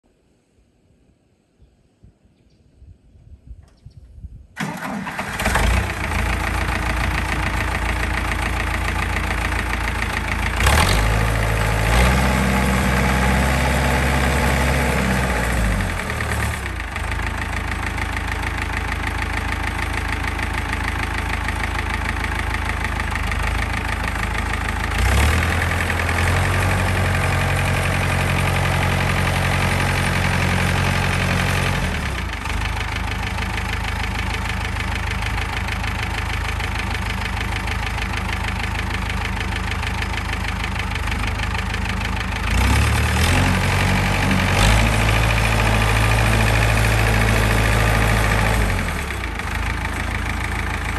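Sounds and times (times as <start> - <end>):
diesel tractor engine idling and revving: 4.6 - 50.9.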